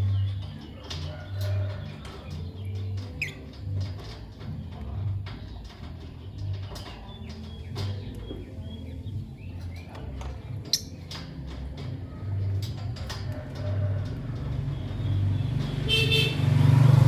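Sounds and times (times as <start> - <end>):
lovebirds chirping and clicking: 0.0 - 16.6.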